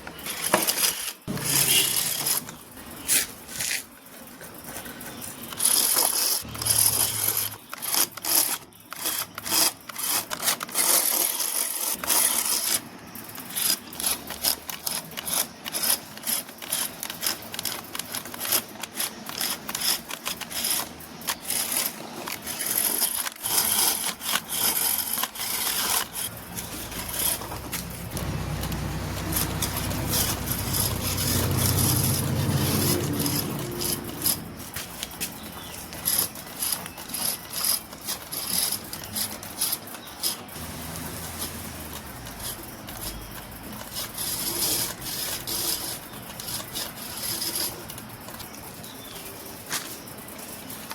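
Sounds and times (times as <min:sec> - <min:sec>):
clicks and scraping on rough ground: 0:00.0 - 0:50.9
small electric motors and gearboxes: 0:00.0 - 0:50.9.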